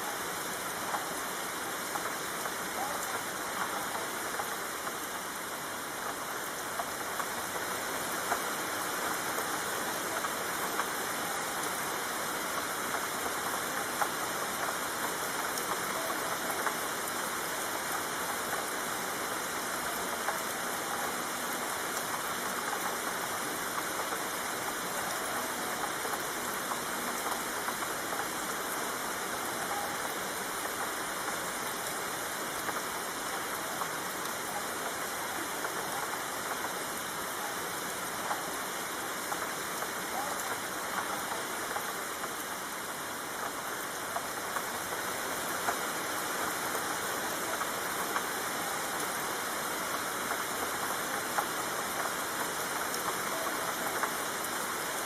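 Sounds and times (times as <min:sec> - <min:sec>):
raindrops ticking: 0:00.0 - 0:55.0
steady rainfall hiss: 0:00.0 - 0:55.0.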